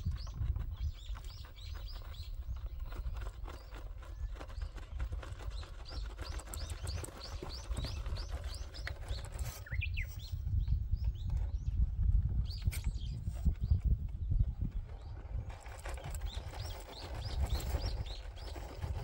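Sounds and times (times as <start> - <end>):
bird singing chirps: 0.0 - 19.0.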